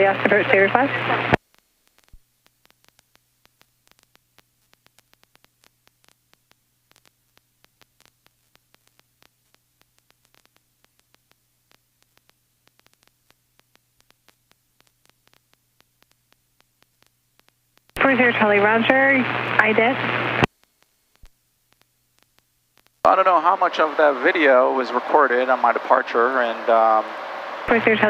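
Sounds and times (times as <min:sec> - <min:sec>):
faint electrical hum: 0:00.0 - 0:28.0
faint static clicks: 0:00.0 - 0:28.0.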